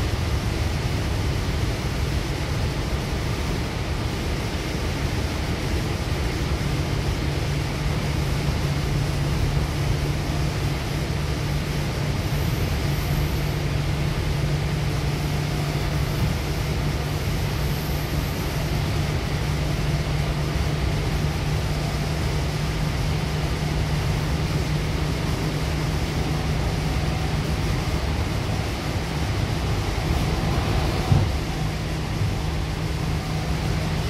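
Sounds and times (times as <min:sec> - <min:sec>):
train wheels on rail: 0:00.5 - 0:34.0.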